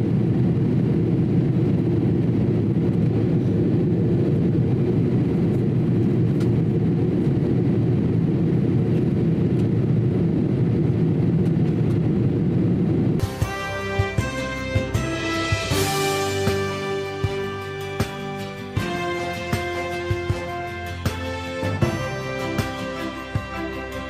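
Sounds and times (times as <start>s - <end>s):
airliner cabin engine rush: 0.0s - 24.0s.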